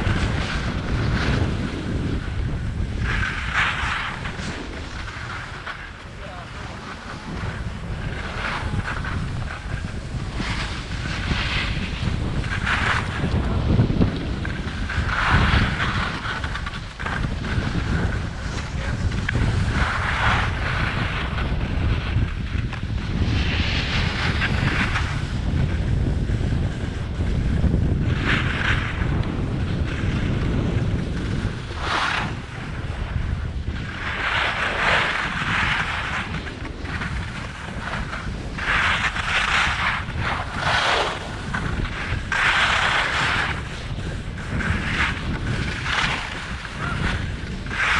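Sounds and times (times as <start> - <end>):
edges scraping across snow: 0.0 - 27.3, 28.1 - 47.9
wind rumbling on microphone: 0.0 - 47.9.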